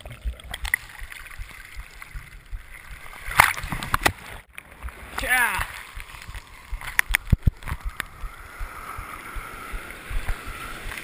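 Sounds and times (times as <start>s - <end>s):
water splashing against camera: 0.0s - 11.0s.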